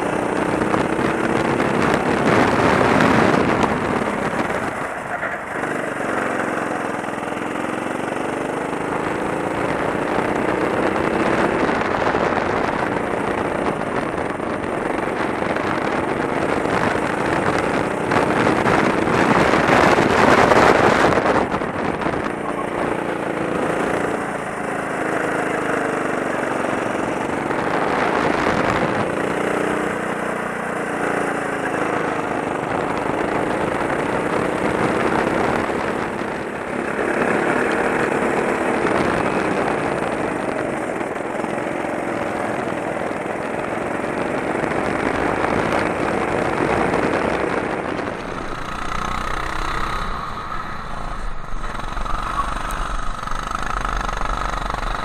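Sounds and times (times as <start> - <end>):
kart engine running: 0.0 - 55.0.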